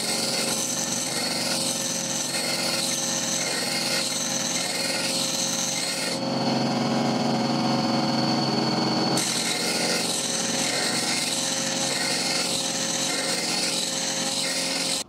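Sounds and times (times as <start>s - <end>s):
steel grinding on stone wheel: 0.0s - 7.2s, 9.1s - 15.0s
bench grinder motor humming: 0.0s - 15.0s.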